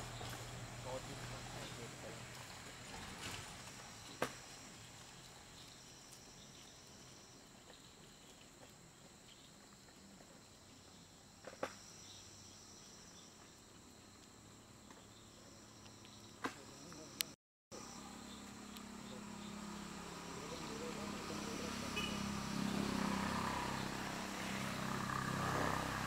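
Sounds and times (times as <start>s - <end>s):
cricket and insect chorus: 0.0s - 26.0s.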